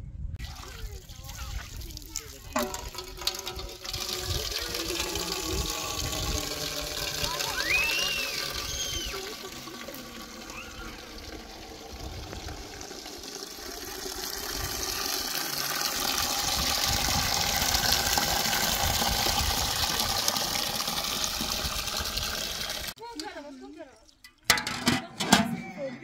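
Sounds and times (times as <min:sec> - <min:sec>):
water gushing: 0:00.4 - 0:24.5.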